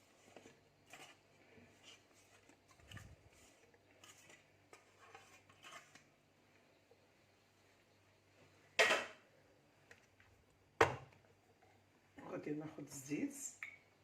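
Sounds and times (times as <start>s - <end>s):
faint rustles and clicks of kitchenware: 0.0s - 14.0s.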